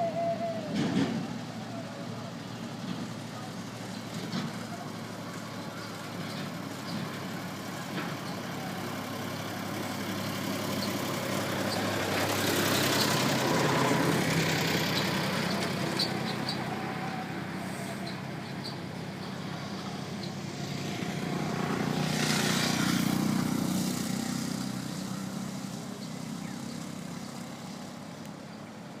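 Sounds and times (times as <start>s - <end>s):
steady low engine hum: 0.0s - 29.0s
vehicles passing on road: 0.0s - 29.0s.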